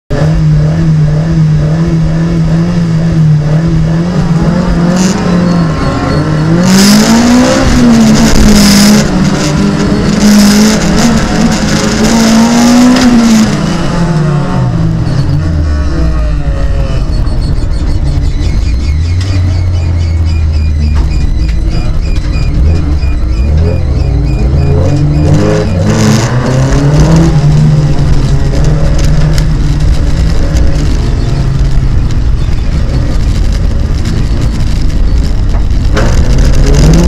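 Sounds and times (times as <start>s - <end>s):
race car engine revving: 0.1s - 37.0s.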